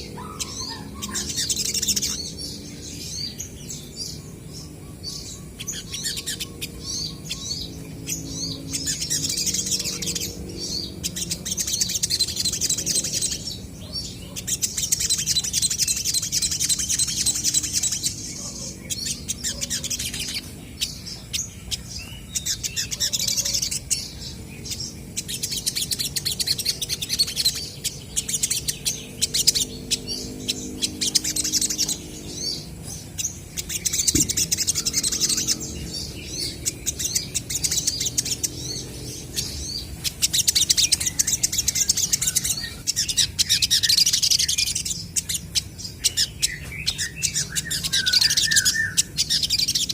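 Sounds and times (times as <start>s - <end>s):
sunbirds chirping and twittering: 0.0s - 49.9s.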